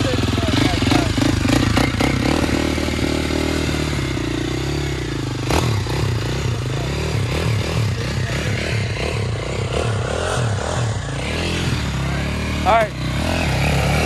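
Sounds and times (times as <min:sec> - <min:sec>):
quad engine idling: 0:00.0 - 0:14.0.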